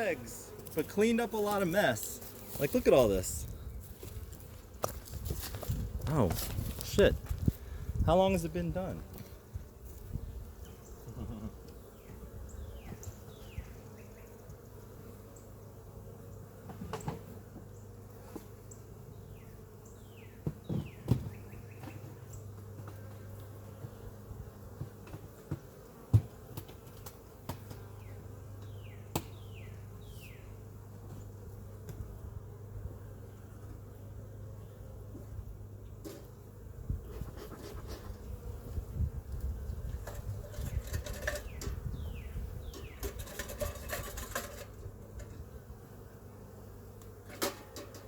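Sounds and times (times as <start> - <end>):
honeybees buzzing: 0.0 - 48.0.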